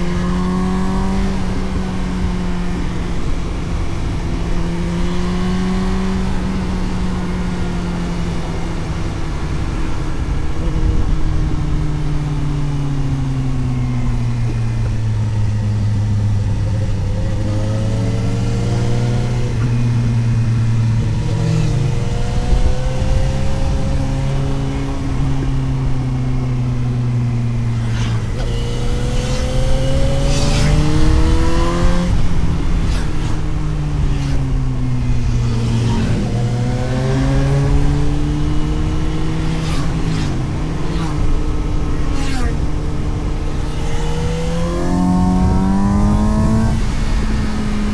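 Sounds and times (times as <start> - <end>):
motorcycle engine: 0.0 - 47.9
wind noise: 0.0 - 47.9.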